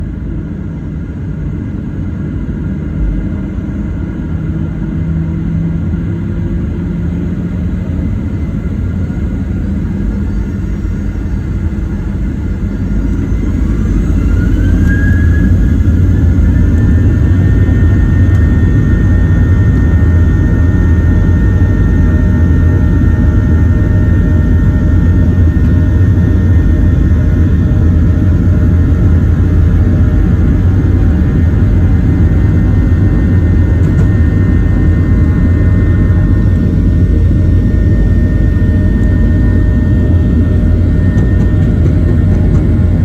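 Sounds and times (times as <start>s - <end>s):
jet engines spooling up: 3.8s - 43.0s.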